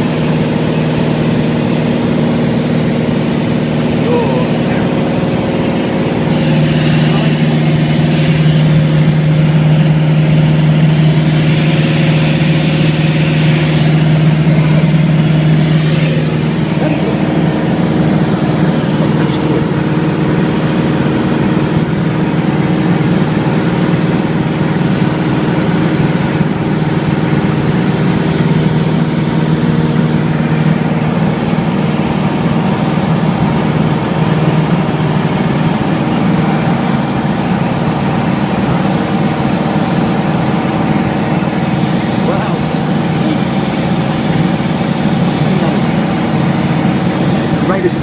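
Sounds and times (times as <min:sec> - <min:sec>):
light aircraft engine droning: 0:00.0 - 0:48.0.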